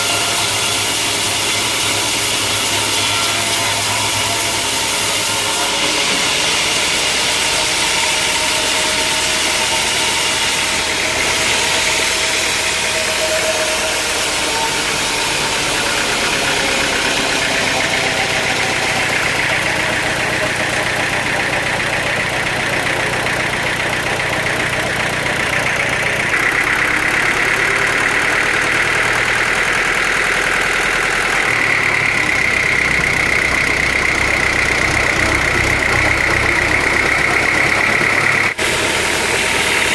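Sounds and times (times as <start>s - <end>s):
high whine: 0.0s - 39.9s
sawmill machinery running: 0.0s - 39.9s.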